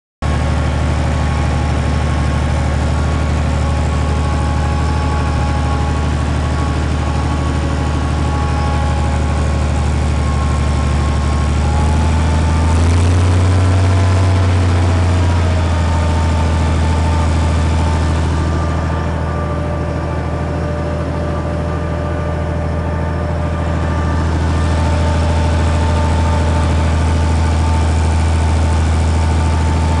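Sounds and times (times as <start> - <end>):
tractor diesel engine under load: 0.2 - 30.0.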